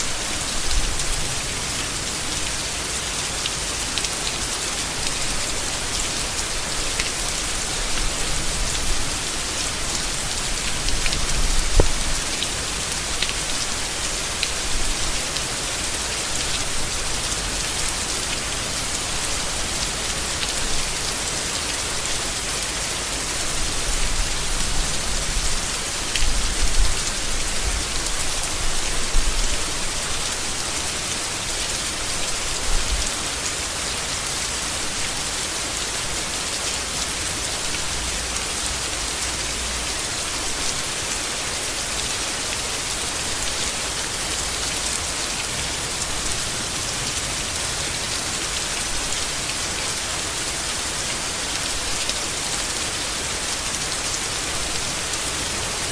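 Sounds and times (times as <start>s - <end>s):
rain falling on leaves: 0.0s - 55.9s.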